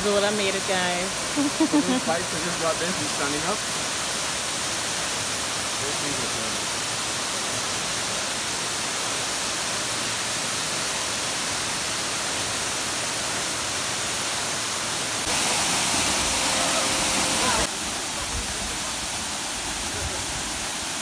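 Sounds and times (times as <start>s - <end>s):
waterfall rushing into pool: 0.0s - 21.0s.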